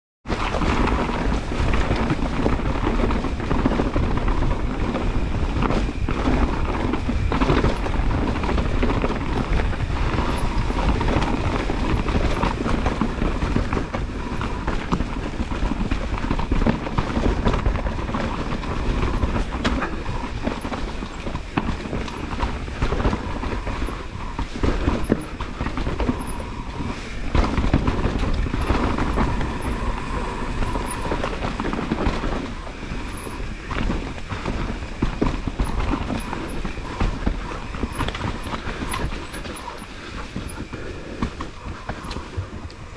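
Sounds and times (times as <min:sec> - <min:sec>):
bike rattling and knocking: 0:00.2 - 0:42.9
bike tyres rumbling over dirt: 0:00.2 - 0:42.9.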